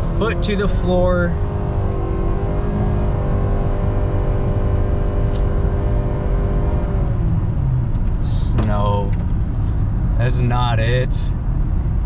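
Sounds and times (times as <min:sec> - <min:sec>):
car engine at full throttle: 0:00.0 - 0:12.0
low road rumble: 0:00.0 - 0:12.0.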